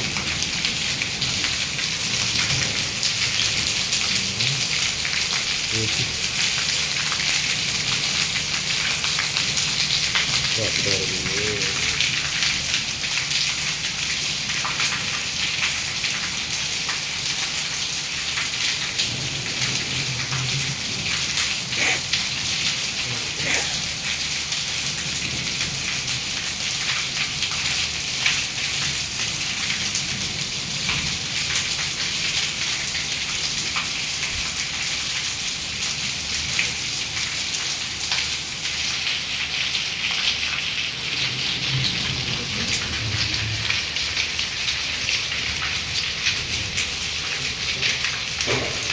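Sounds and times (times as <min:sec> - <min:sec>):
heavy rain and hail on concrete: 0:00.0 - 0:48.9.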